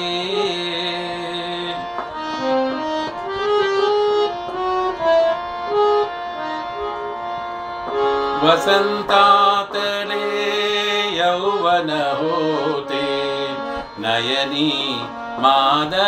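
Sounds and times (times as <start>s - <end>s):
harmonium melody: 0.0s - 16.0s.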